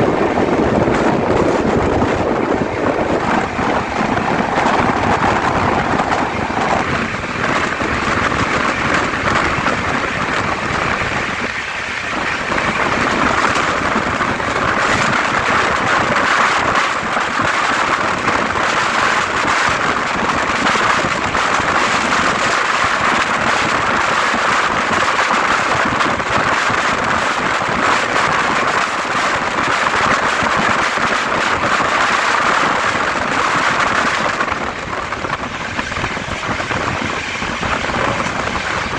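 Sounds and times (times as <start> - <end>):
train running at high speed: 0.0 - 38.9
wheels clattering on rails: 0.0 - 38.9.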